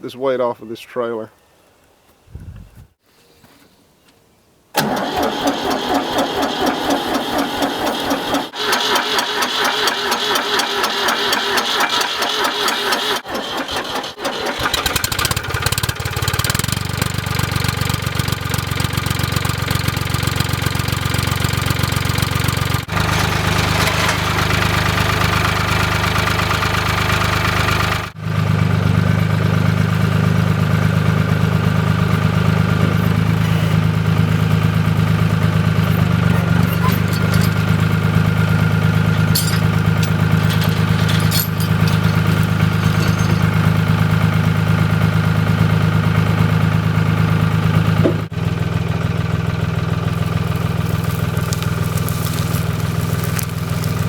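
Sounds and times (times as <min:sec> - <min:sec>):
tractor engine cranking and running: 0:04.8 - 0:54.0.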